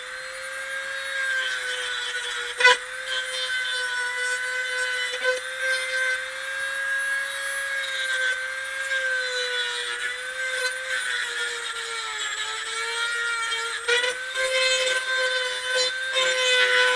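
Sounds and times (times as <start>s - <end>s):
electric saw cutting wood: 0.0s - 16.9s.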